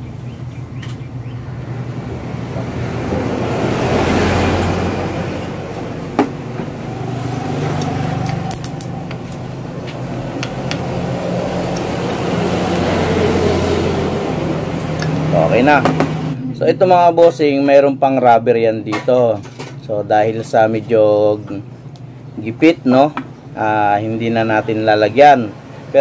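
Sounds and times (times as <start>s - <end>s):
vehicles passing: 0.0s - 26.0s.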